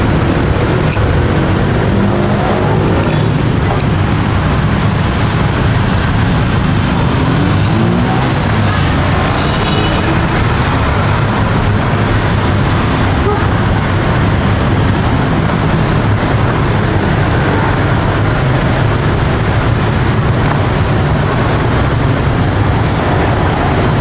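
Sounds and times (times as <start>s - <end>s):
street traffic: 0.0s - 24.0s.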